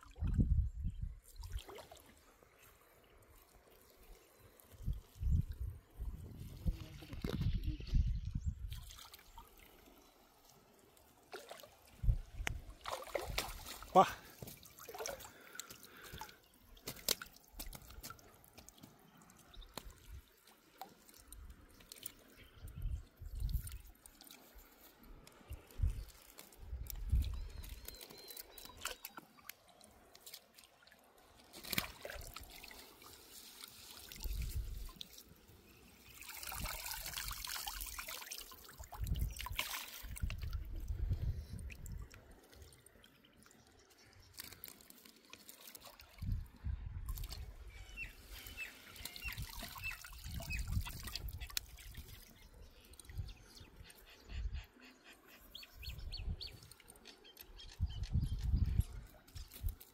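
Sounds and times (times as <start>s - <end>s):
water trickling and splashing: 0.0s - 54.3s, 55.2s - 59.9s.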